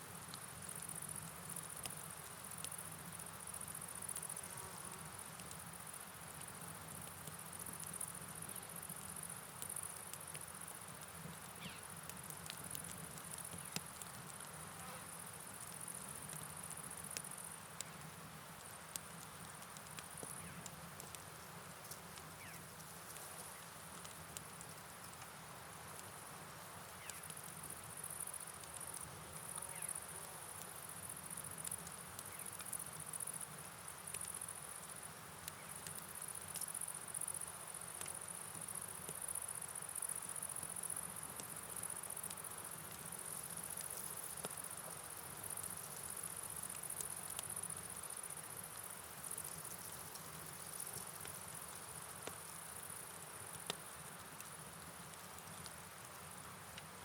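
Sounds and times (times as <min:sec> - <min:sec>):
night insects chirring: 0:00.4 - 0:18.9, 0:19.5 - 0:21.2, 0:21.8 - 0:25.0, 0:25.8 - 0:56.5.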